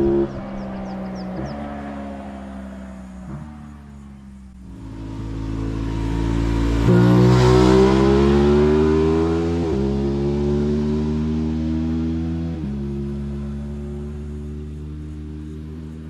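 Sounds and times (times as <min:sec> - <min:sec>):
motorcycle accelerating hard: 0:00.0 - 0:16.0.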